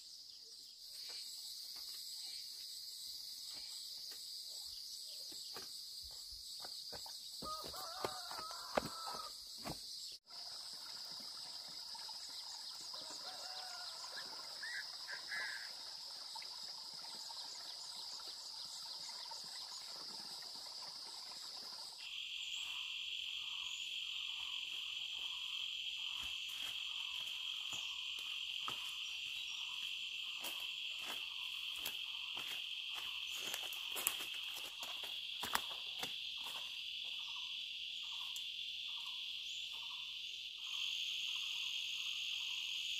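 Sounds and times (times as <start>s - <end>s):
insects chirring drone: 0.0s - 42.9s.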